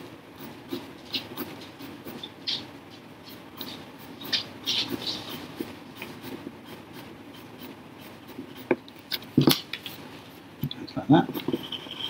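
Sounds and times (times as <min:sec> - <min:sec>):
pencil scratching on paper: 0:00.0 - 0:10.4, 0:11.2 - 0:12.0.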